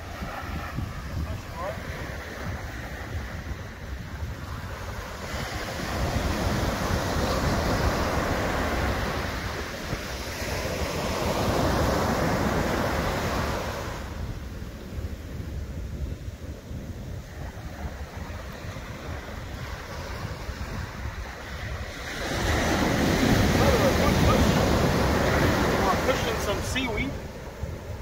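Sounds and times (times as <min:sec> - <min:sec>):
surf washing up a beach: 0:00.0 - 0:28.0
wind rumble on microphone: 0:00.0 - 0:28.0.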